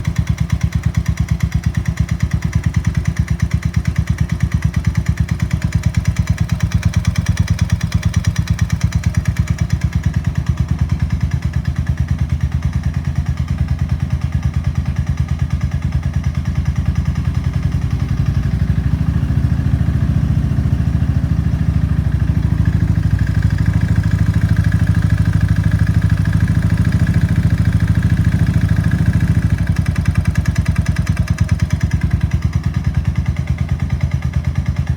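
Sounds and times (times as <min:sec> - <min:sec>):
fast engine knocking: 0:00.0 - 0:34.9
motorcycle engine running: 0:00.0 - 0:34.9.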